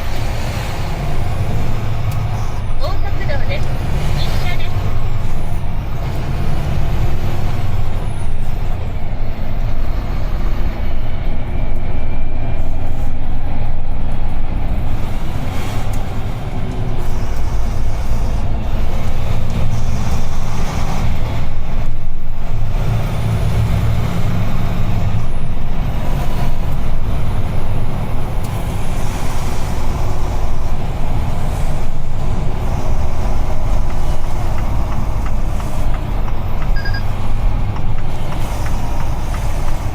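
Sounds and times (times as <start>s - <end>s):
diesel truck engine from cab: 0.0s - 39.9s
road rumble: 0.0s - 39.9s.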